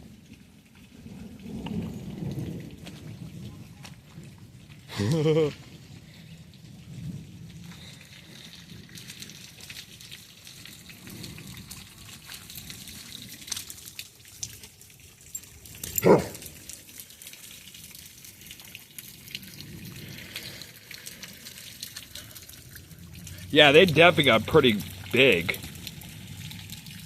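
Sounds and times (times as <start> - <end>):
rain dripping and trickling: 0.0 - 27.0.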